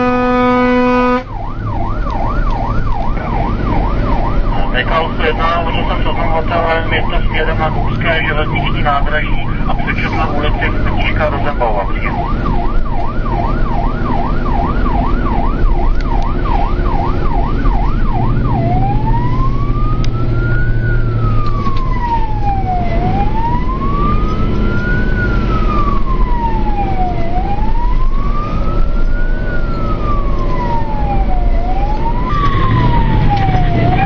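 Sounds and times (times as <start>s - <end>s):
fire engine siren: 0.0s - 34.0s
truck engine running: 0.0s - 34.0s.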